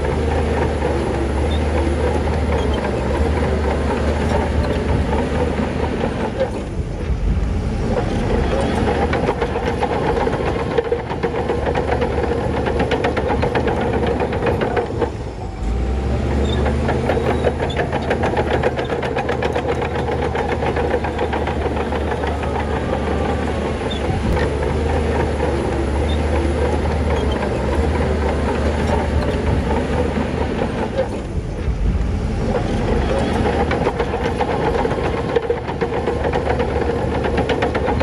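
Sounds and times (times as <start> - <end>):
bulldozer diesel engine under load: 0.0 - 38.0
steel tracks clanking: 0.0 - 38.0.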